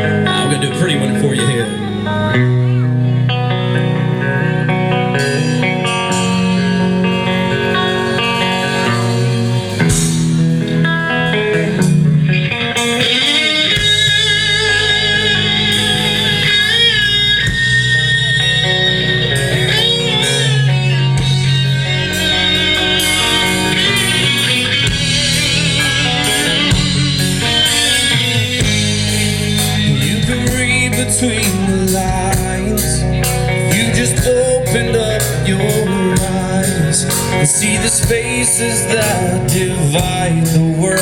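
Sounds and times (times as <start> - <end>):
bass and drums: 0.0 - 41.0
rock guitar: 0.0 - 41.0
wavering lead guitar: 0.0 - 41.0.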